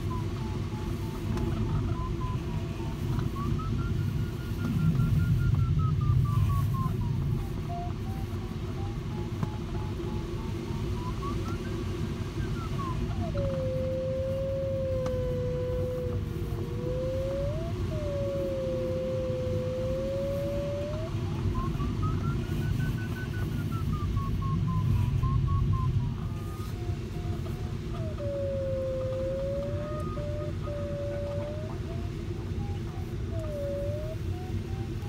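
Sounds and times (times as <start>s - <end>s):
cockpit airflow noise: 0.0s - 35.0s
variometer beeps and tone: 0.0s - 35.0s.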